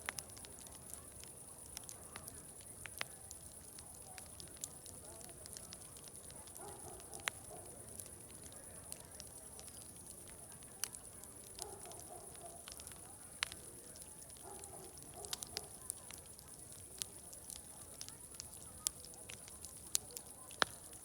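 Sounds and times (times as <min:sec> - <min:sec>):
wood fire crackling and popping: 0:00.0 - 0:21.0
distant crowd chatter: 0:00.1 - 0:21.0.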